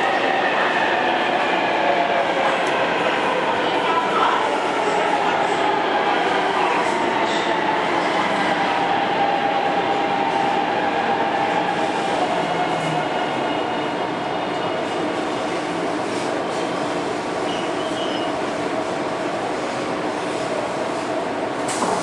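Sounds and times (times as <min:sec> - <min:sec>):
train rolling noise: 0:00.0 - 0:22.0.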